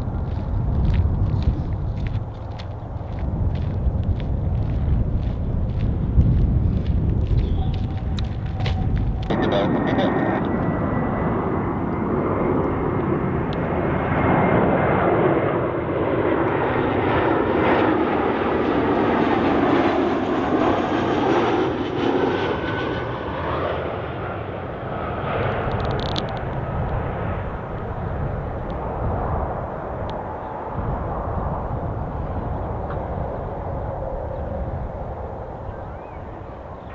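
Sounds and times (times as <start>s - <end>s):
jet airliner passing: 0.0s - 36.9s.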